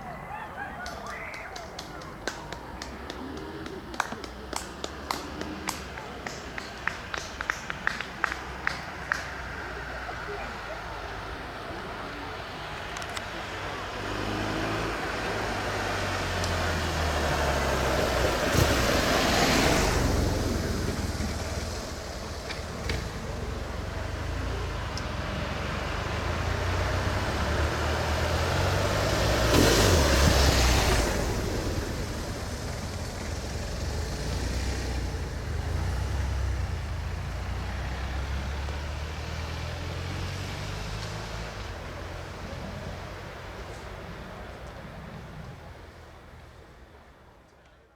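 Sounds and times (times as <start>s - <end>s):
traffic engine hum: 0.0s - 47.9s
vehicles passing: 0.0s - 47.9s.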